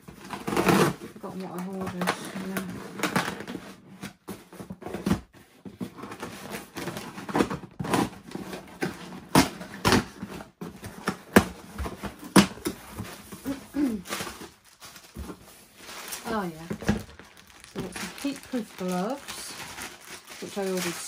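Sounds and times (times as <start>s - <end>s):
cardboard box being rummaged: 0.0s - 21.0s.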